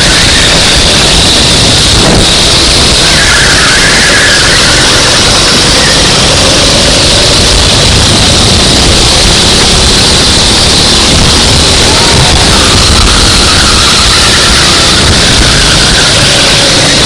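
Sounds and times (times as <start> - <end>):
distorted go-kart engine racing: 0.0 - 17.0.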